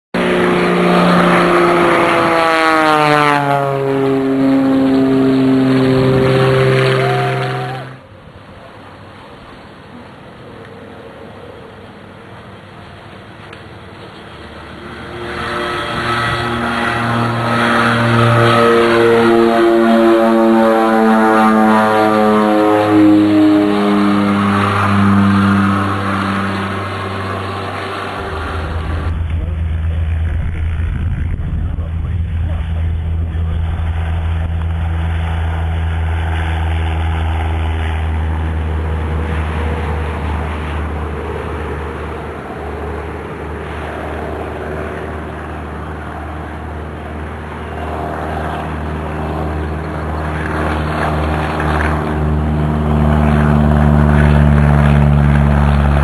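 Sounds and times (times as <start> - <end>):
propeller airplane passing: 0.2 - 56.0.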